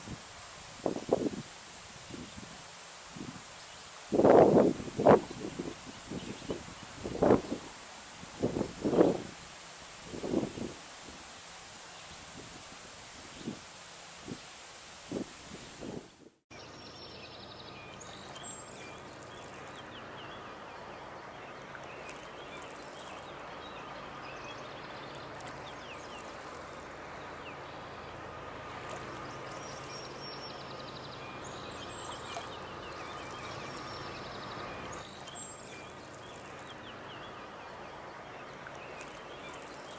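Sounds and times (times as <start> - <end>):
outdoor air and water hiss: 0.0 - 39.9.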